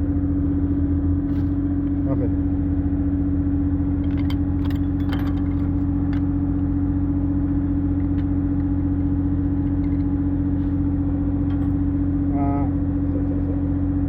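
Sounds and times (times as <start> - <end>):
engine humming steadily: 0.0 - 14.0.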